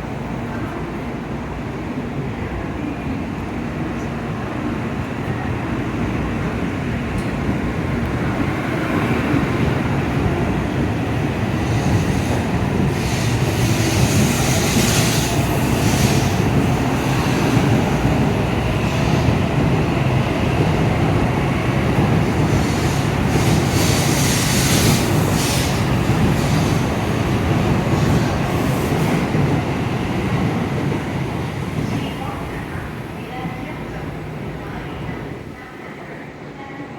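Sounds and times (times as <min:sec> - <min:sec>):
train wheels and motors rumbling: 0:05.0 - 0:35.3.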